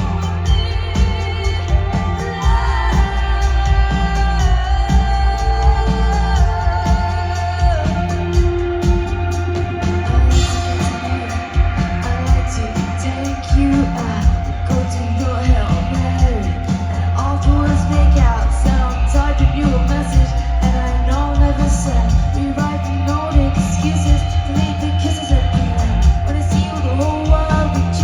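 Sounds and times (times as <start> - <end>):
heavy bass: 0.0 - 28.0
person singing: 0.0 - 28.0
steady drum beat: 0.0 - 28.0.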